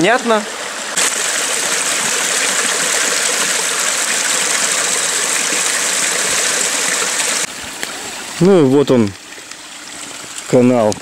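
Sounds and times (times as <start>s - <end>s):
stream splashing over rocks: 0.0s - 11.0s.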